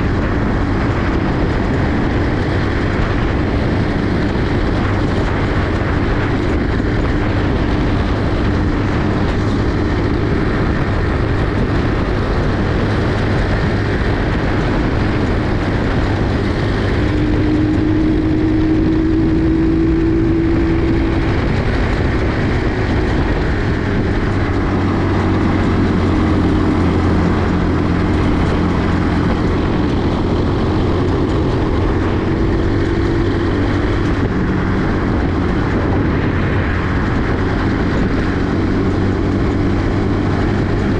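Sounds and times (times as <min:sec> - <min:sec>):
rush of noise: 0:00.0 - 0:40.9
small engine running: 0:00.0 - 0:40.9.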